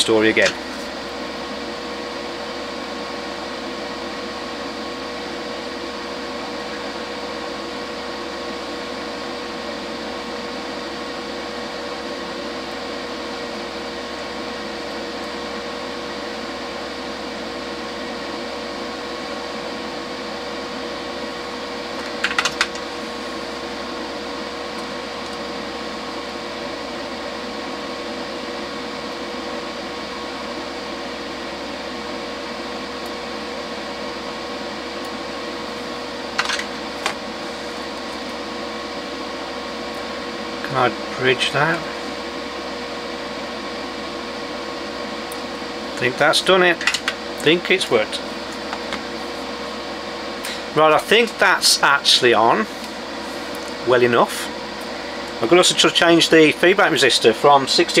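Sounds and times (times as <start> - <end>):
electric fan whirring: 0.0 - 58.0.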